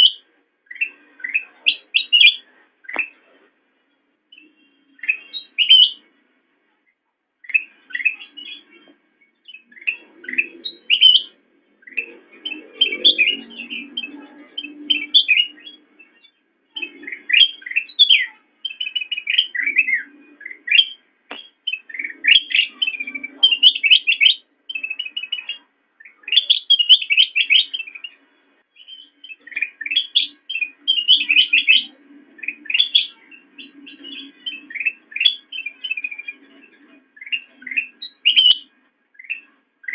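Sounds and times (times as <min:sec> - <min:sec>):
bird singing whistled phrases: 0:00.0 - 0:03.1, 0:04.3 - 0:06.1, 0:07.4 - 0:08.7, 0:09.4 - 0:28.2, 0:28.8 - 0:36.5, 0:37.2 - 0:39.9.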